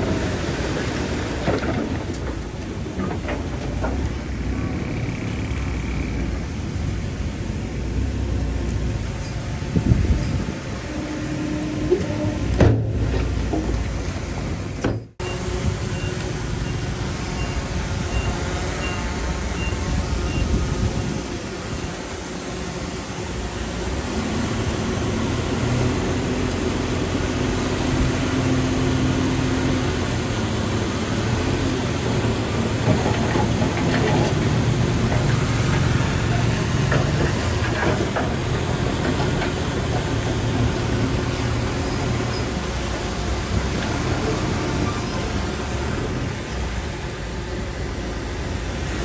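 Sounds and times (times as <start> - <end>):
diesel machinery running under load: 0.0 - 49.0.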